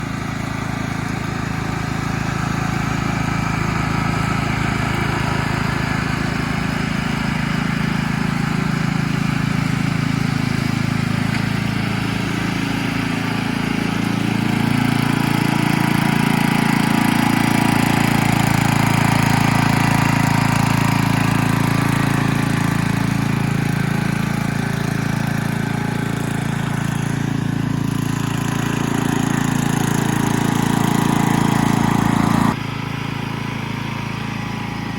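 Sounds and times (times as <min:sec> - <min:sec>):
ride-on mower engine running: 0:00.0 - 0:34.9.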